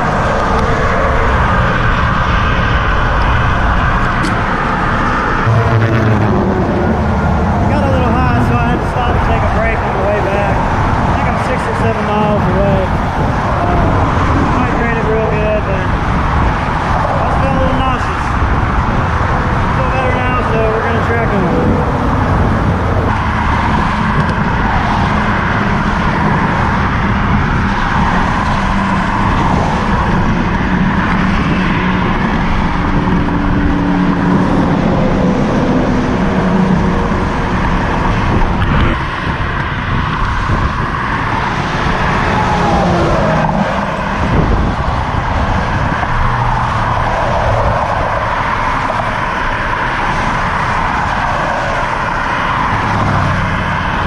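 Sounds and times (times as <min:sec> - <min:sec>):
road traffic passing: 0:00.0 - 0:54.0
wind rushing over microphone: 0:00.0 - 0:54.0.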